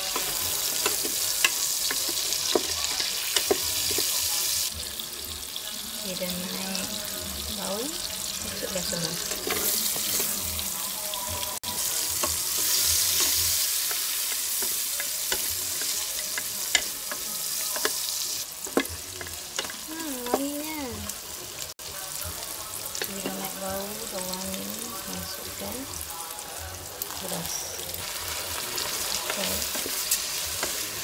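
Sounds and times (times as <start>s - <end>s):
shallots sizzling in butter: 0.0s - 31.0s.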